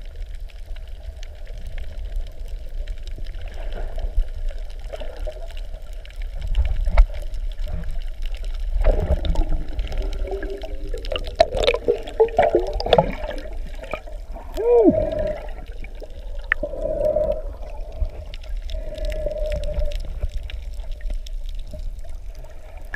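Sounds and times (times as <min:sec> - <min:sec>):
muffled underwater water rush: 0:00.0 - 0:22.9
air bubbles gurgling: 0:01.1 - 0:22.9.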